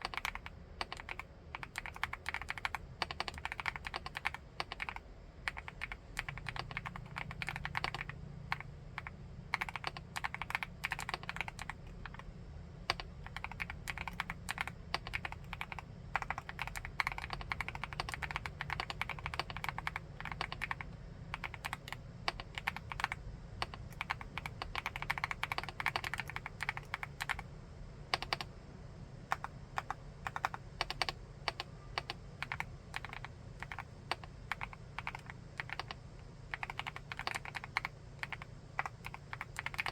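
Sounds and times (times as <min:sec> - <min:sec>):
keyboard typing: 0:00.0 - 0:27.5, 0:28.1 - 0:28.5, 0:29.3 - 0:39.9.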